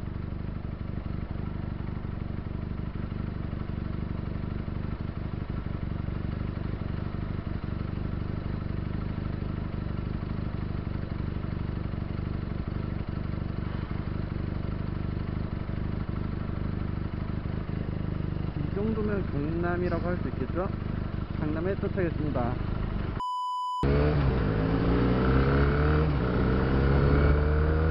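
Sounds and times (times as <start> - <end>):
motorcycle engine idling: 0.0 - 23.2.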